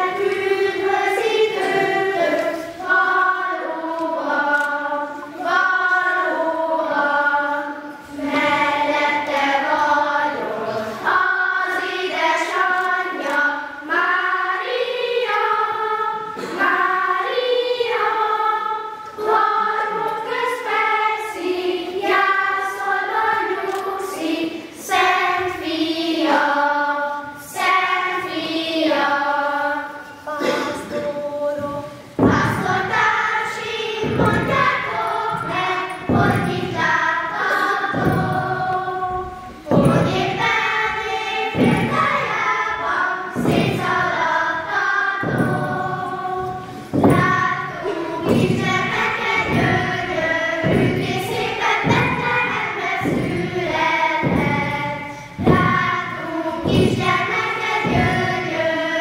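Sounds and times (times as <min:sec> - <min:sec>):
children singing together: 0:00.0 - 0:59.0.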